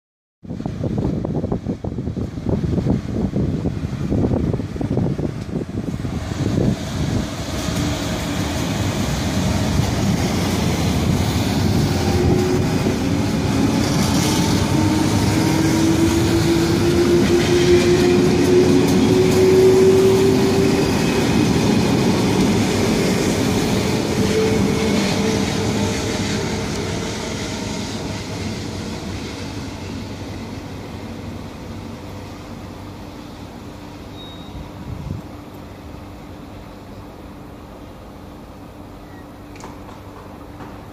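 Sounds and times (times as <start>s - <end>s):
train wheels rumbling on track: 0.4s - 40.9s.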